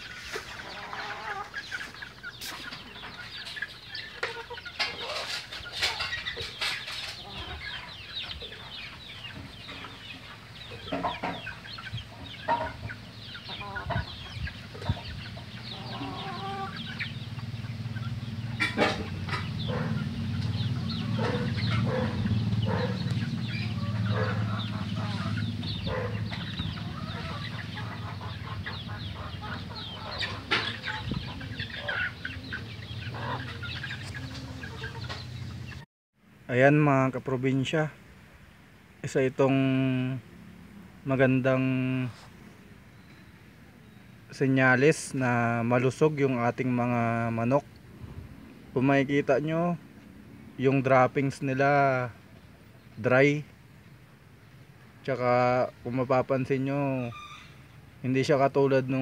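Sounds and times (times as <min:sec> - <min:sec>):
chickens clucking: 0:00.0 - 0:35.9, 0:39.1 - 0:59.0.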